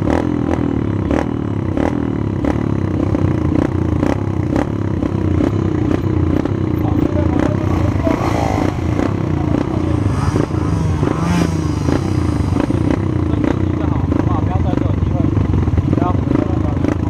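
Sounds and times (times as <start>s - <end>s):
minibike engine running: 0.0s - 17.0s.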